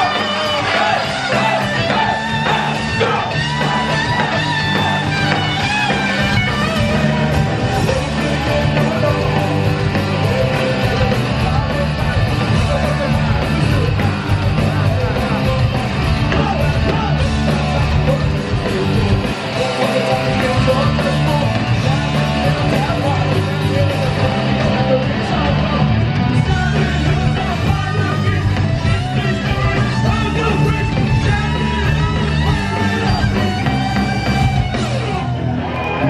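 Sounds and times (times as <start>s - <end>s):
punk rock band playing: 0.0s - 36.0s.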